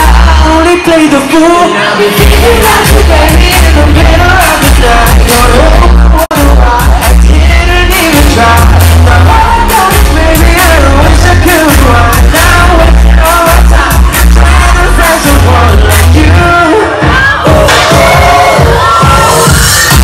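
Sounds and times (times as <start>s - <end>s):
heavy bass and drums: 0.0s - 0.8s, 2.2s - 20.0s
singer's amplified voice: 0.0s - 20.0s.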